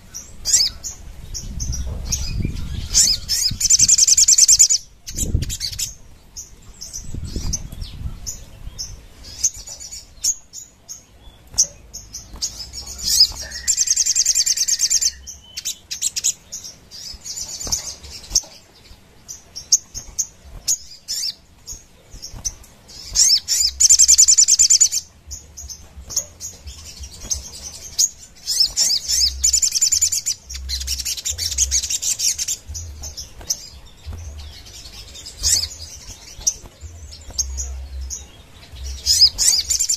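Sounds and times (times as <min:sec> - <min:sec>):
bird chirps: 0:00.0 - 0:39.9
sunbird singing in rattling bursts: 0:00.0 - 0:39.9.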